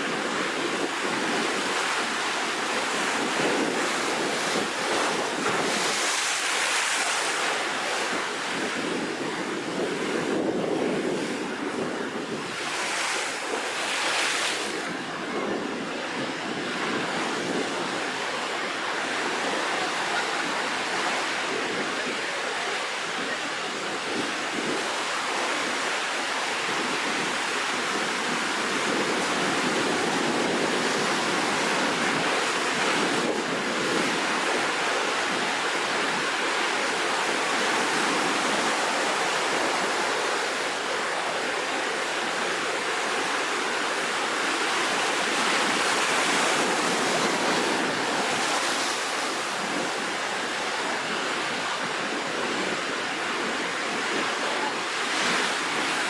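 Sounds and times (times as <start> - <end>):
waves breaking: 0.1 - 56.0.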